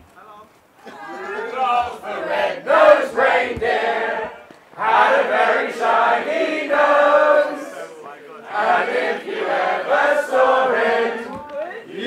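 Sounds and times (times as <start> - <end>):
crowd singing a carol: 0.8 - 12.0.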